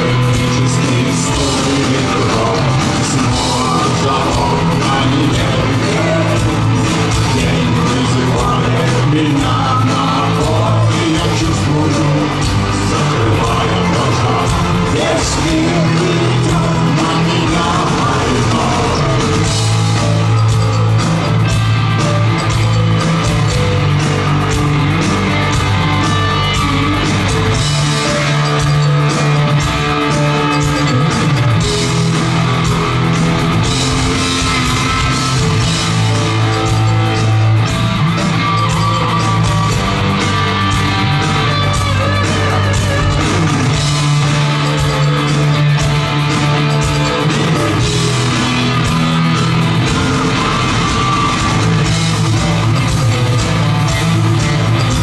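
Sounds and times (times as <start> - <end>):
bass: 0.0 - 55.0
drums: 0.0 - 55.0
electric guitars: 0.0 - 55.0.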